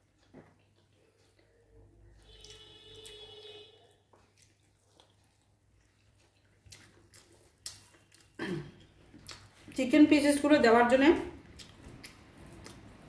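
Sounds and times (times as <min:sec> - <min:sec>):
person chewing food: 0:00.0 - 0:09.8, 0:11.4 - 0:13.0.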